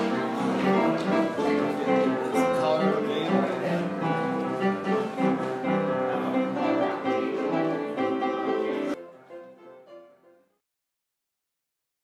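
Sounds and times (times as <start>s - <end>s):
instrumental background music: 0.0s - 10.5s.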